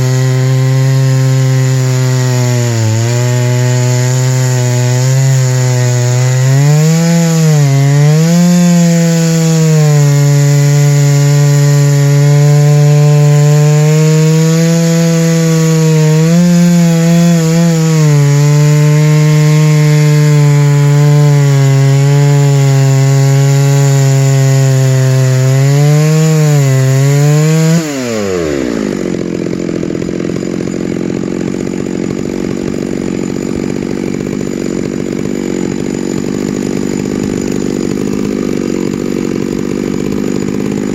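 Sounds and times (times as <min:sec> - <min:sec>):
chainsaw cutting wood: 0:00.0 - 0:40.9
chainsaw idling: 0:00.0 - 0:40.9.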